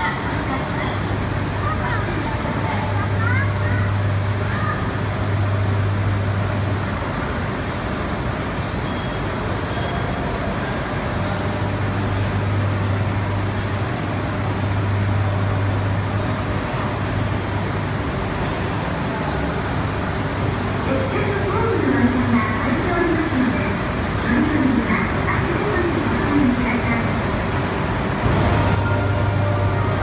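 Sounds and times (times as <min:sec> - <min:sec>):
train equipment humming: 0:00.0 - 0:30.0.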